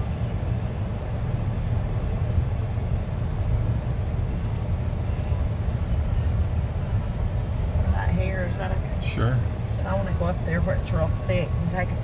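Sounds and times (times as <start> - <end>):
car rolling on dirt road: 0.0 - 12.0.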